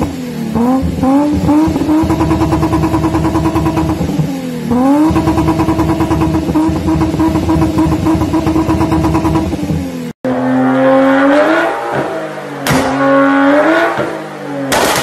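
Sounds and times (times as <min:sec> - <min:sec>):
car engine revving: 0:00.0 - 0:15.0
loud car exhaust at high revs: 0:00.0 - 0:15.0.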